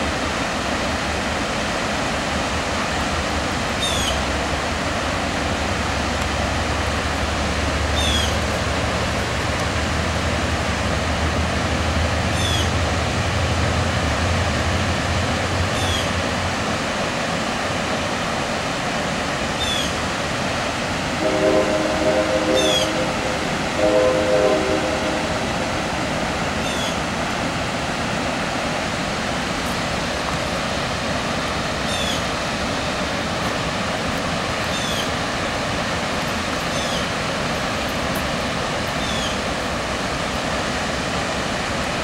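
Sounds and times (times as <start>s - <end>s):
freight train rumbling on bridge: 0.0s - 42.0s.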